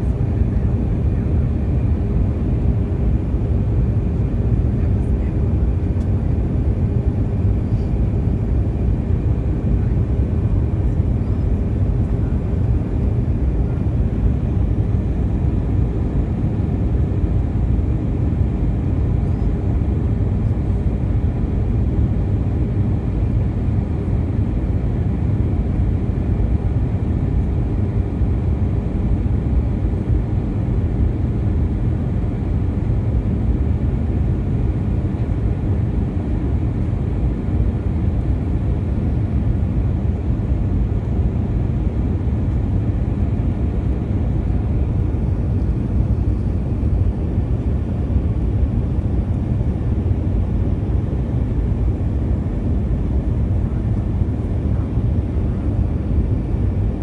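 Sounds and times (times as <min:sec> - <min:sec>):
jet engines rumbling in cabin: 0:00.0 - 0:57.0.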